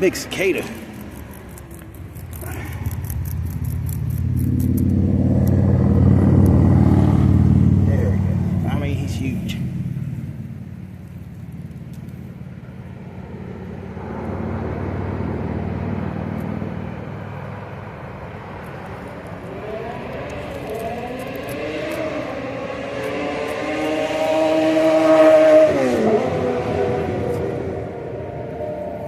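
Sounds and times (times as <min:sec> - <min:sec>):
vehicle accelerating: 0:00.0 - 0:29.0
vehicle engine humming: 0:00.0 - 0:29.0.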